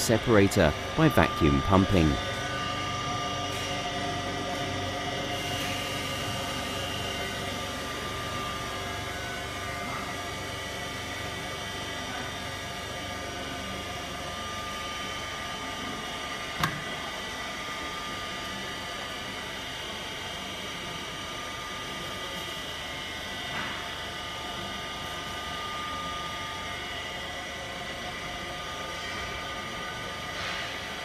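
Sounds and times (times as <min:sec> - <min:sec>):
vacuum pumps humming: 0:00.0 - 0:31.0.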